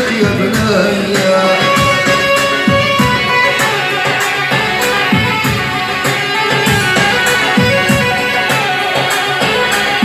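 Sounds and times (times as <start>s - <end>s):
drum-machine beat: 0.0s - 10.0s
plucked-string keyboard melody: 0.0s - 10.0s.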